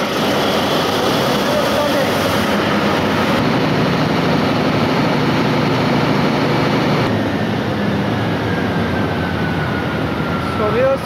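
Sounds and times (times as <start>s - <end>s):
diesel generator engine running: 0.0s - 11.0s.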